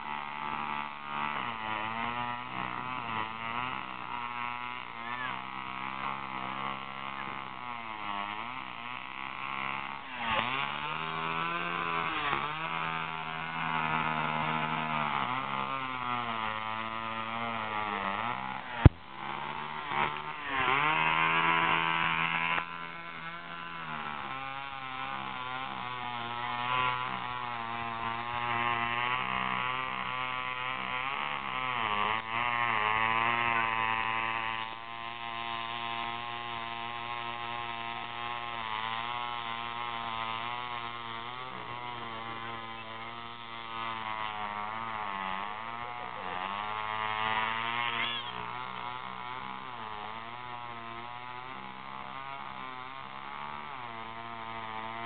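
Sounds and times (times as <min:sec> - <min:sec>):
chainsaw engine cutting: 0:00.0 - 0:55.0.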